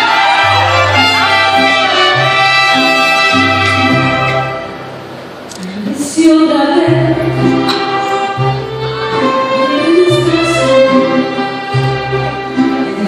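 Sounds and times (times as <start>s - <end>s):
violins playing melody: 0.0s - 5.6s, 6.9s - 13.0s
strummed guitars: 0.0s - 13.0s.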